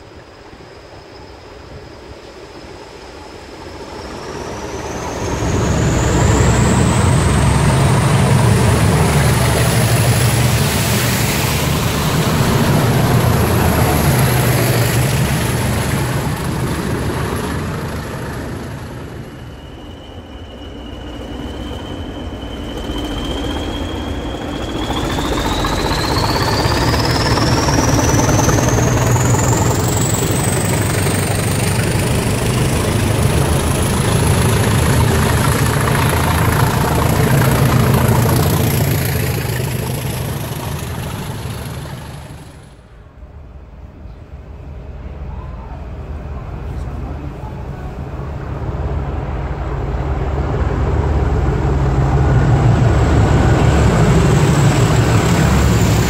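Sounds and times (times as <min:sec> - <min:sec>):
train wheels on rails: 0:00.0 - 0:42.9, 0:45.9 - 0:56.0
diesel locomotive engine: 0:00.0 - 0:56.0
diesel train passing: 0:00.0 - 0:56.0.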